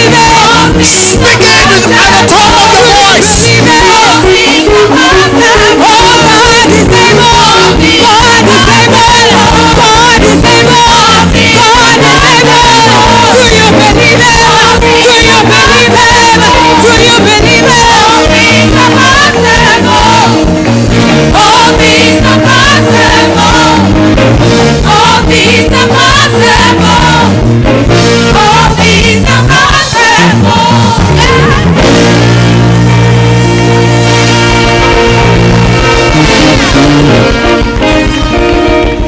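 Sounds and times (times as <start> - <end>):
bass line: 0.0 - 39.0
congregation singing gospel music: 0.0 - 39.0.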